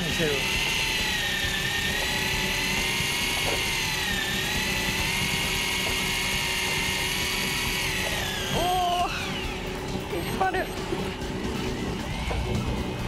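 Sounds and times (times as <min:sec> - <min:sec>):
fishing reel motor whining: 0:00.0 - 0:13.0.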